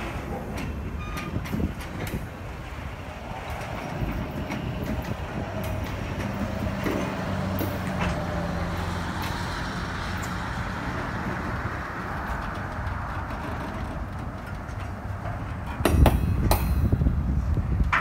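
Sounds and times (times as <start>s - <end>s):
sharp clicks and clanks: 0.0s - 17.1s
freight train wheels rumbling: 0.0s - 18.0s.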